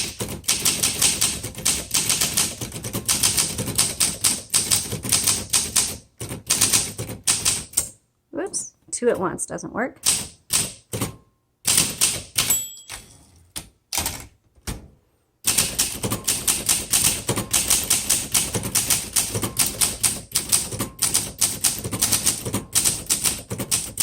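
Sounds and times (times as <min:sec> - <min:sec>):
manual typewriter typing: 0:00.0 - 0:07.9, 0:10.0 - 0:14.8, 0:15.4 - 0:24.0.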